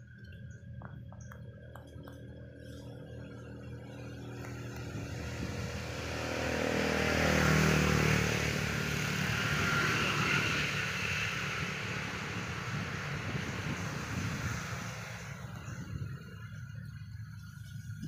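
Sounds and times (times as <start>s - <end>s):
motor vehicle passing by: 0.0s - 18.0s.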